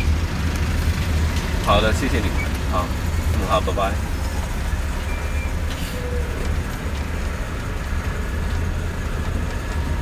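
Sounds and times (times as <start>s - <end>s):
car engine and traffic rumble: 0.0s - 10.0s.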